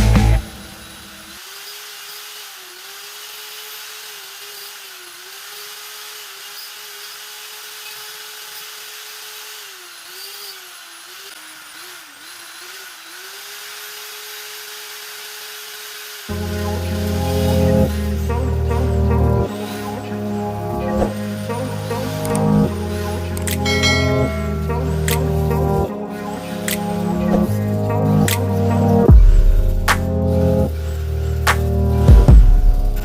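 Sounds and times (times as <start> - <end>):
rotary carving tool whining: 0.4 - 33.0.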